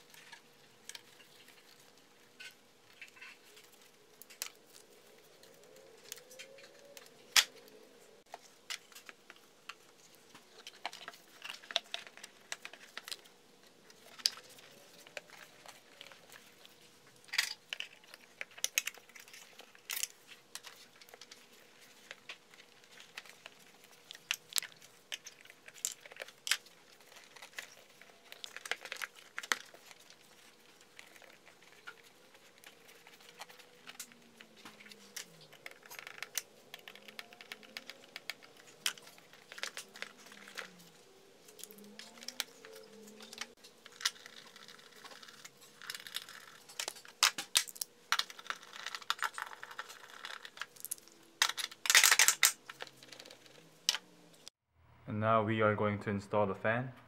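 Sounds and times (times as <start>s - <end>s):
plastic parts clicking and knocking: 0.0s - 54.1s.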